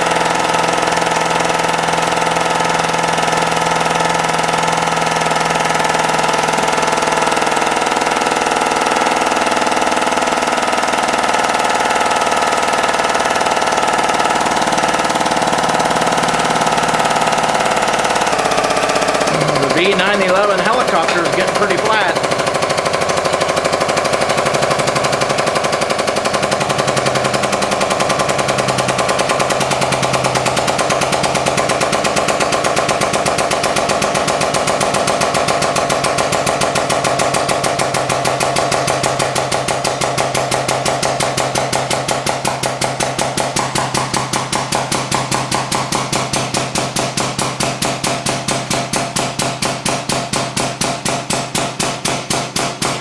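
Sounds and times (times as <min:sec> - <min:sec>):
hydraulic press pump pulsing: 0:00.0 - 0:53.0.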